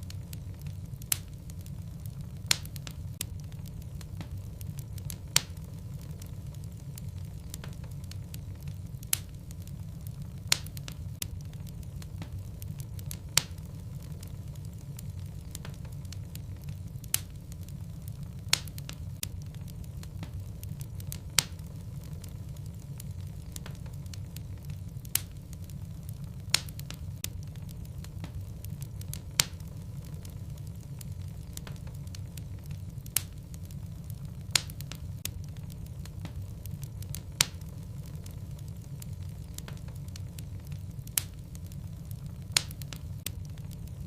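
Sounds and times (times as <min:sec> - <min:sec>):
fire crackling: 0:00.0 - 0:44.0
fire rumbling: 0:00.0 - 0:44.0.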